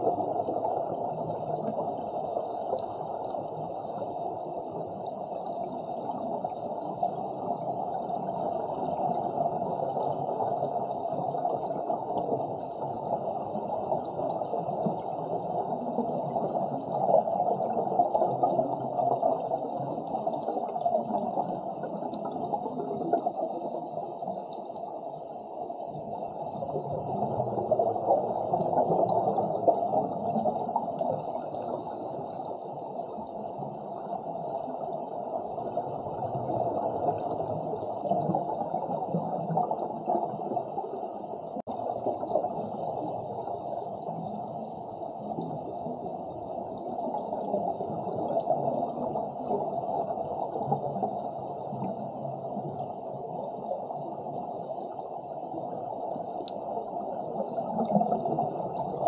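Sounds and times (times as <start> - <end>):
muffled underwater rushing and gurgling: 0.0 - 59.0.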